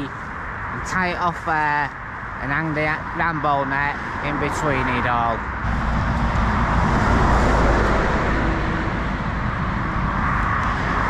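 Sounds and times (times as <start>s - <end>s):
traffic rushing on busy road: 0.0s - 11.0s.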